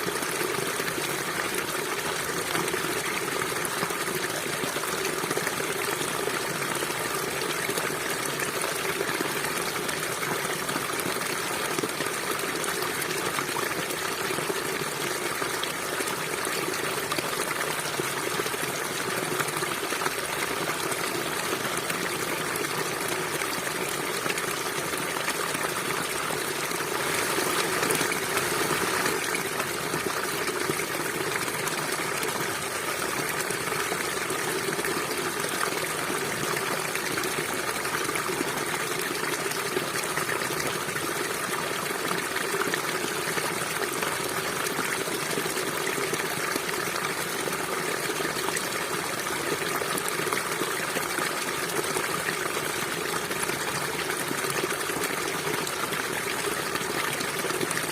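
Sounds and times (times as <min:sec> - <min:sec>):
river water flowing over rocks: 0:00.0 - 0:57.9.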